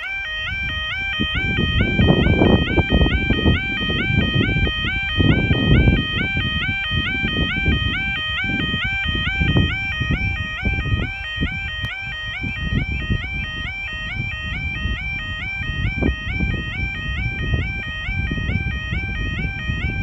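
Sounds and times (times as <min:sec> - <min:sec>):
two-tone crossing alarm: 0:00.0 - 0:20.0.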